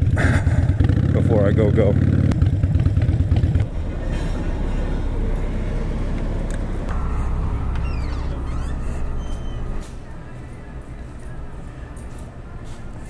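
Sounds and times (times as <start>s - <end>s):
motorcycle engine rumbling: 0.0s - 12.6s.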